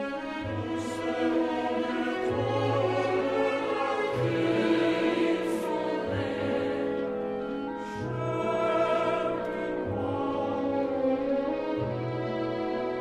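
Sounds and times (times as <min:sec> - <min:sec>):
slow orchestral music: 0:00.0 - 0:13.0.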